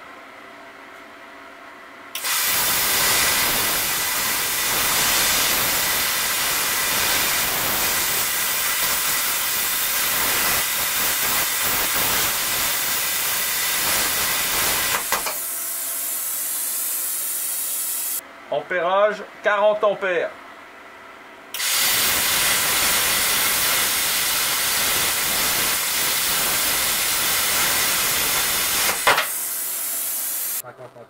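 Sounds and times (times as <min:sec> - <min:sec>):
air hissing from torch: 0:02.2 - 0:18.2, 0:21.6 - 0:30.6
plasma cutter arc hissing: 0:02.2 - 0:18.2, 0:21.6 - 0:30.6.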